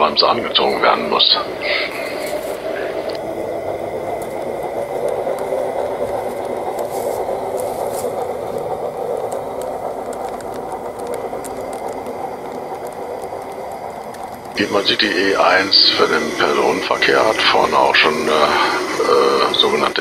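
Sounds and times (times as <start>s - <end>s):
model train motor whir: 0.0s - 20.0s
wheels clicking over rail joints: 0.0s - 20.0s.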